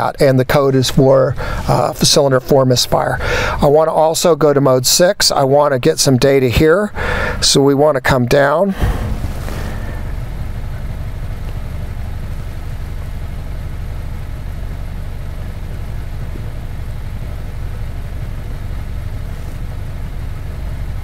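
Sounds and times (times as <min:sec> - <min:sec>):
car engine idling rough: 0:00.0 - 0:21.0.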